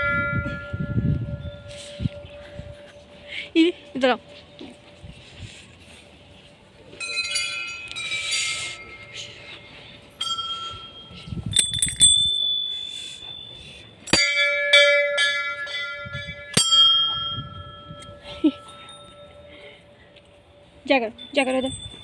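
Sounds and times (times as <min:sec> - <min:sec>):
temple bells ringing: 0:00.0 - 0:05.3, 0:06.9 - 0:22.0.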